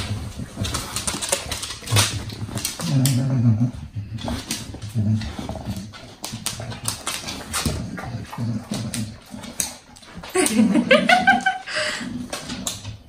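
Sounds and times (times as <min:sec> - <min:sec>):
dog grunting and sniffing: 0:00.0 - 0:13.0.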